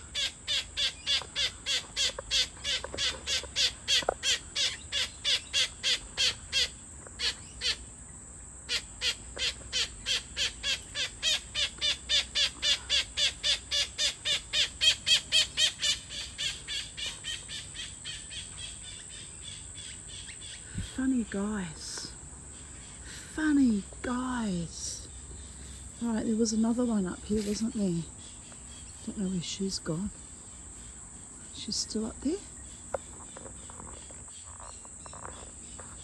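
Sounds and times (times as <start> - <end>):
high insect hum: 0.0 - 36.0.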